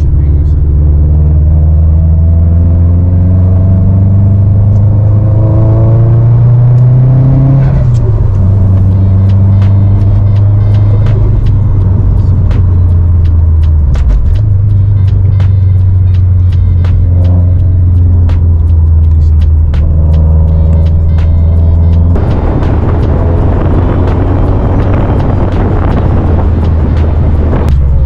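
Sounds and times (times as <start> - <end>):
music beat with ticks: 0.0 - 1.0, 4.7 - 28.0
car engine accelerating: 0.0 - 28.0.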